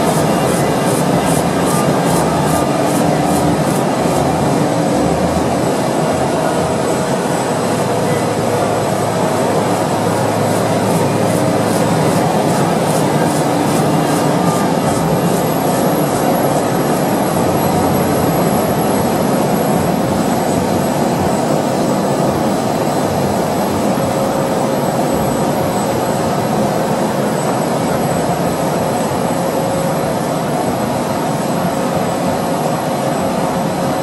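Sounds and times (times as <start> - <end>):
high machine whine: 0.0 - 34.0
printing press running: 0.0 - 34.0.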